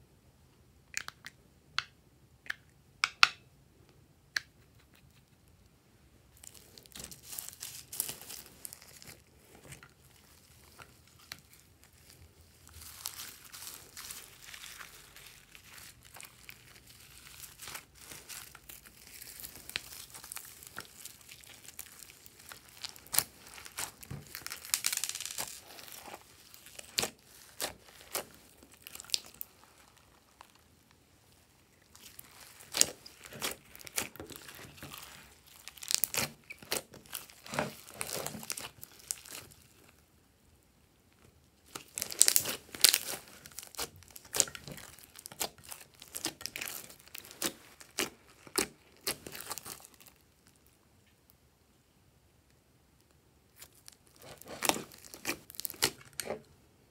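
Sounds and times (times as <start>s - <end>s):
hands squeezing sticky slime: 6.4s - 40.0s, 41.6s - 50.7s, 53.5s - 56.4s.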